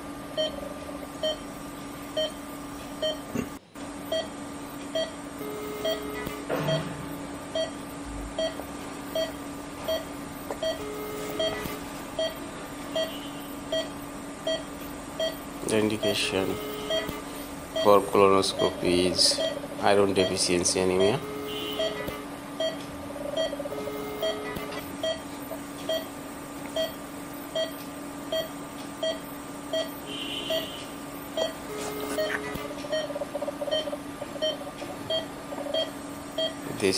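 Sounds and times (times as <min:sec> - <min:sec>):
equipment hum: 0:00.0 - 0:36.9
pulse oximeter beeping: 0:04.1 - 0:06.9, 0:08.4 - 0:19.6, 0:20.2 - 0:26.1, 0:26.7 - 0:36.6.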